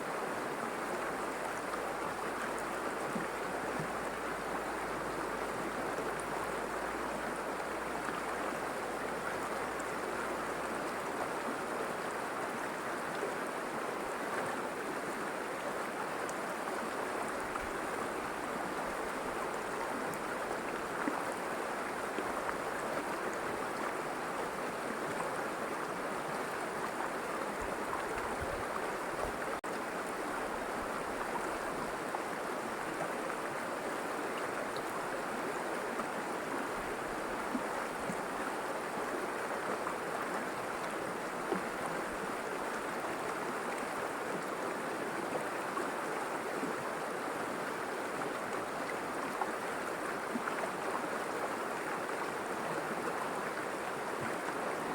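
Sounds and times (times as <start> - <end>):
river flowing: 0.0 - 54.9.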